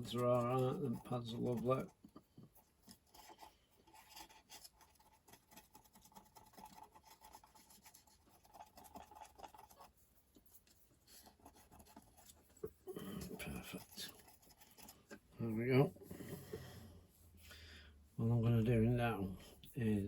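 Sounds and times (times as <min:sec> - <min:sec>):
faint scratching and rubbing: 0:00.0 - 0:17.5, 0:18.1 - 0:20.0.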